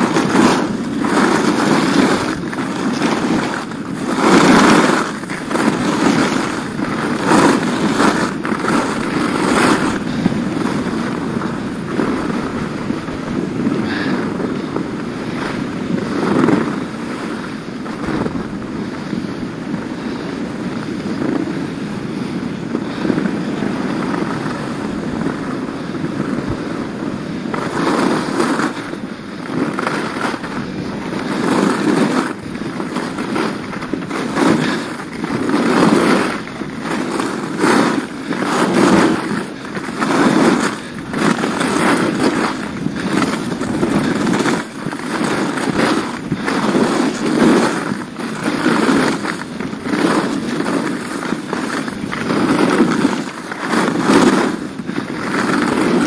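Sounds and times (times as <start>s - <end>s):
skis scraping on snow: 0.0s - 56.0s
wind rushing over microphone: 0.0s - 56.0s.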